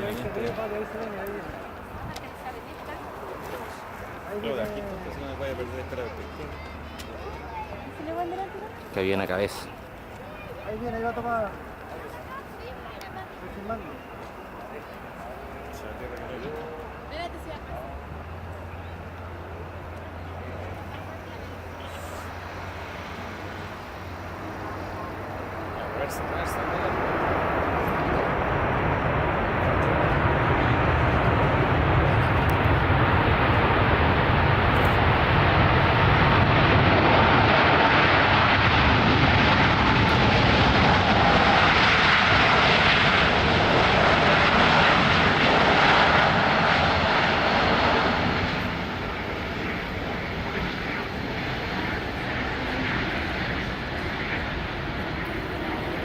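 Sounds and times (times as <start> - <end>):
jet engine roar flying past: 0.0 - 56.0.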